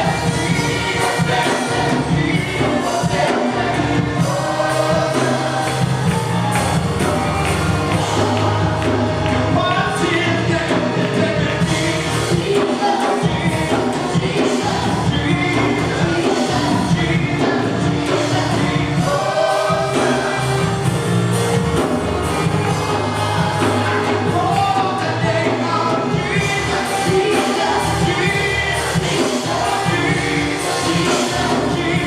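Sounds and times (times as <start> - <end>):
band with bass and drums: 0.0 - 32.0
voices singing together: 0.0 - 32.0.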